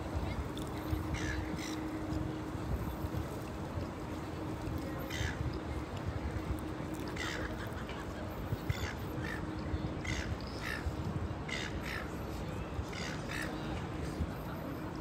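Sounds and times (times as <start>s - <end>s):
low steady background rumble: 0.0s - 15.0s.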